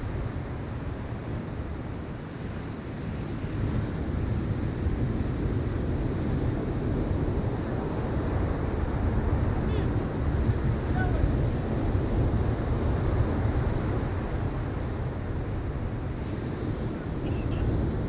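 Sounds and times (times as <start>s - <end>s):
ocean surf breaking on beach: 0.0s - 18.0s
wind rumbling on microphone: 0.0s - 18.0s.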